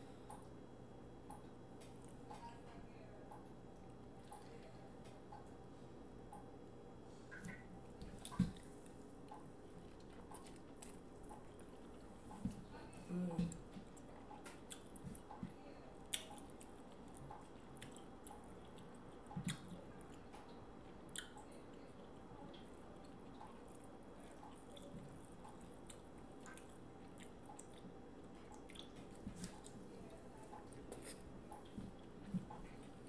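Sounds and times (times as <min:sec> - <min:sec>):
quiet chewing: 0:01.3 - 0:05.6, 0:07.1 - 0:33.0.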